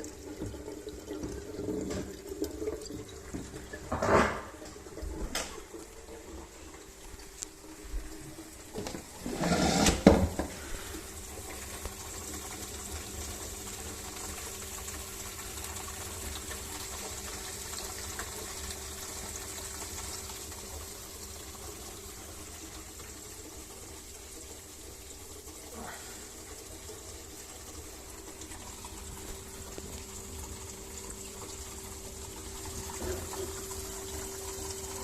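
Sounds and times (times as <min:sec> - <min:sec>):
aquarium plumbing gurgling: 0:00.0 - 0:35.0
water draining: 0:00.0 - 0:35.0.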